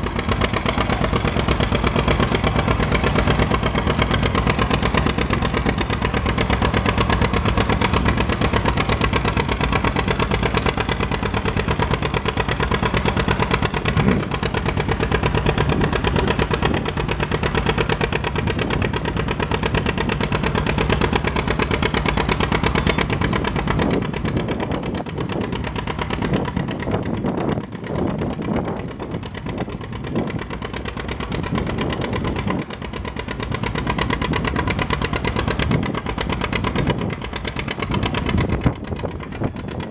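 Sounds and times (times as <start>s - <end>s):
tractor engine running hard: 0.0s - 39.9s.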